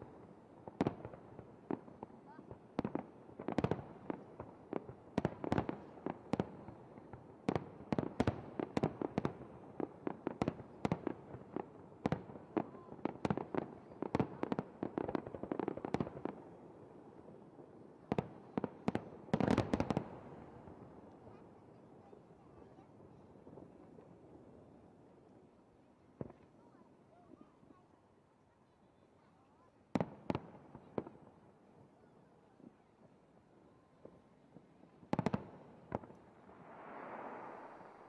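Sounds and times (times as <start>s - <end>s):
fireworks bangs and crackles: 0.0s - 28.0s, 28.9s - 38.0s.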